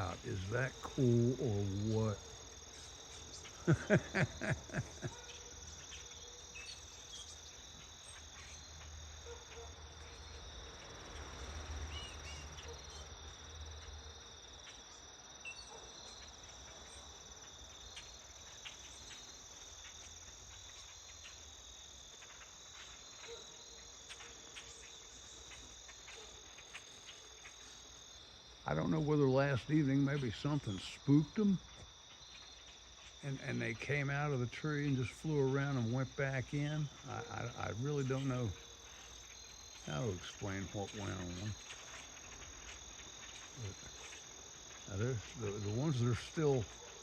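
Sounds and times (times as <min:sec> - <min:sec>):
crickets and insects trilling: 0:00.0 - 0:47.0.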